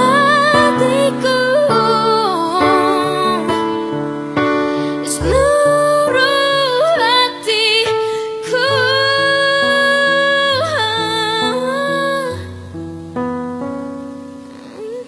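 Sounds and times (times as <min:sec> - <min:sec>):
woman singing a slow ballad: 0:00.0 - 0:12.8.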